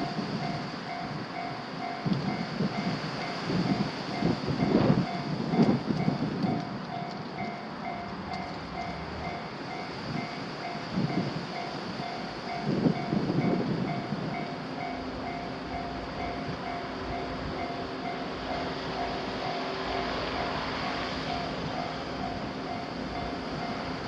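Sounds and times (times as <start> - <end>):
railroad crossing warning bell: 0.0 - 24.0
train passing: 0.0 - 24.0.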